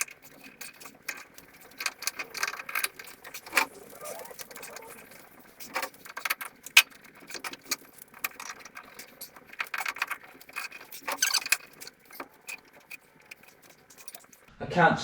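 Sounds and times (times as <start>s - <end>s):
scraping rattle: 0.0s - 14.5s
tools clicking and knocking: 0.0s - 14.5s.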